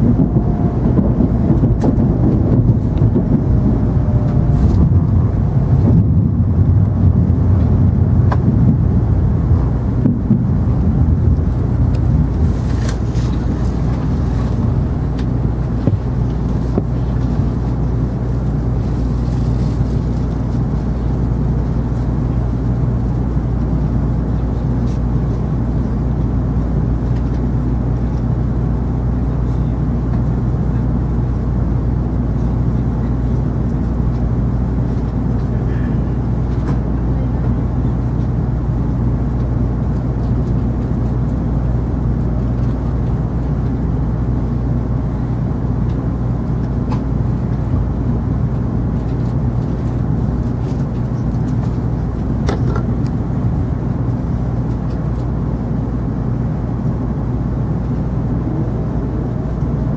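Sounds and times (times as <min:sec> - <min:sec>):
train interior hum and rumble: 0:00.0 - 0:59.9.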